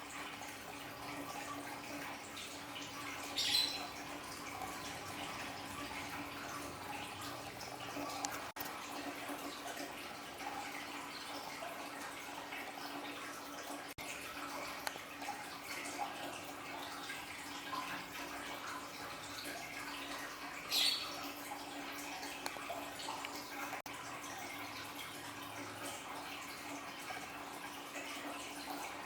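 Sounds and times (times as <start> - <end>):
aquarium waterfall trickling: 0.0 - 29.0.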